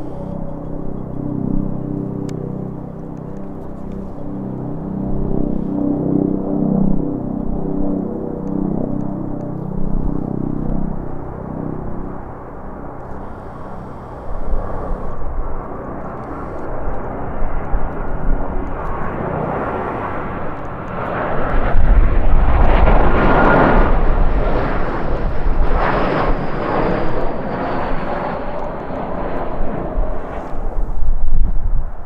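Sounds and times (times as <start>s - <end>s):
high engine whine: 0.0s - 31.4s
jet airliner passing: 0.0s - 32.0s
wind rumble on microphone: 0.0s - 32.0s.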